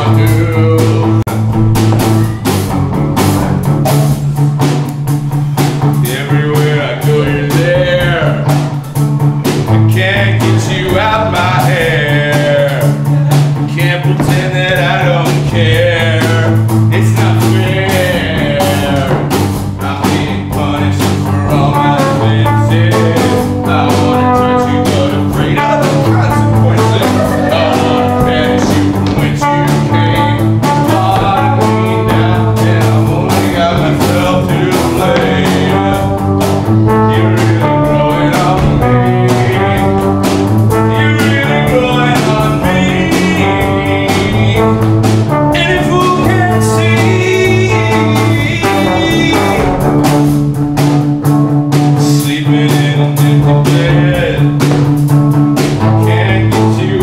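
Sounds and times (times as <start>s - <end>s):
person singing: 0.0s - 1.4s, 6.0s - 8.9s, 9.9s - 50.0s, 52.0s - 54.8s, 55.9s - 57.0s
live rock band playing: 0.0s - 57.0s.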